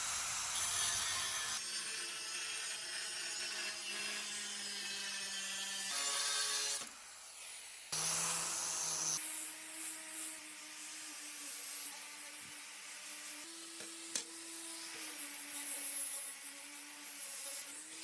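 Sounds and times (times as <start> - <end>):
power tools grinding and sawing: 0.0 - 18.0.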